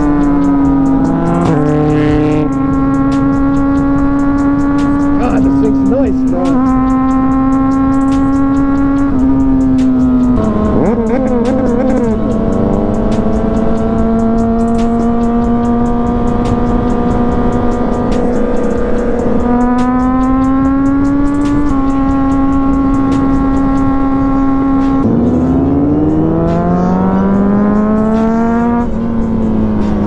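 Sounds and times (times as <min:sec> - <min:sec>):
motorcycle engine and exhaust: 0:00.0 - 0:30.0.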